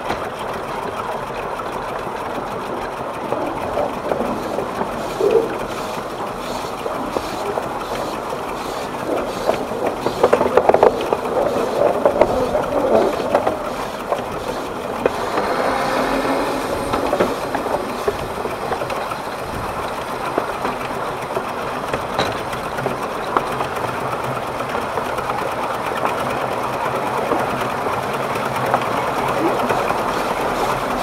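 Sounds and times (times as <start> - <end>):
steam locomotive exhaust beats: 0.0 - 31.0
wheel noise on rails: 0.0 - 31.0.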